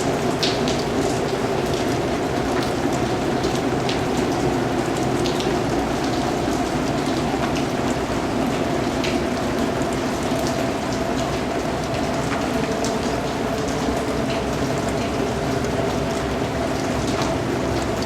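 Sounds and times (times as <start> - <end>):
steady rain patter: 0.0 - 18.0
water drips: 0.0 - 18.0.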